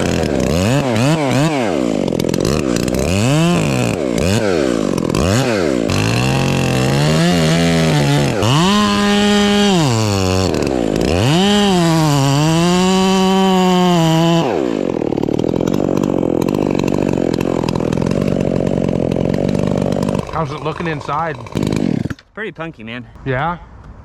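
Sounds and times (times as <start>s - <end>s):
chainsaw cutting wood: 0.0s - 22.4s.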